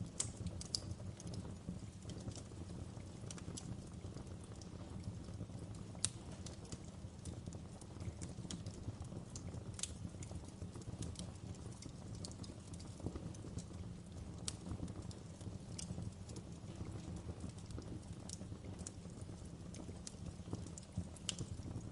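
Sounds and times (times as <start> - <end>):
low rumble of flames: 0.0 - 21.9
wood fire crackling: 0.0 - 21.9.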